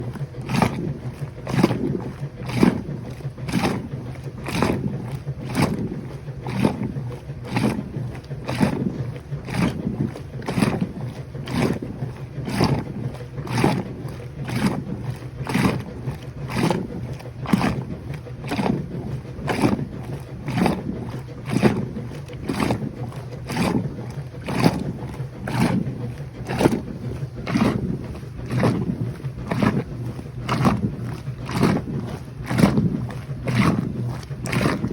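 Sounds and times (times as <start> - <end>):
low motor hum: 0.0 - 34.9
washing machine swishing clothes: 0.0 - 34.9.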